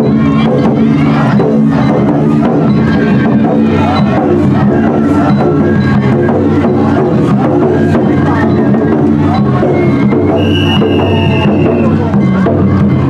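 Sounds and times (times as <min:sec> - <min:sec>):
rhythmic percussion: 0:00.0 - 0:13.0.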